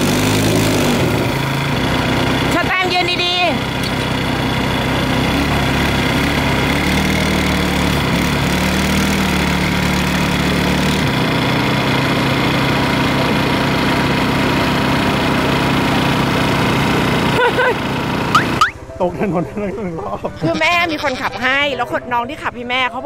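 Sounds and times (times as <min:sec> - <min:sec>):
atv engine under throttle: 0:00.0 - 0:18.9.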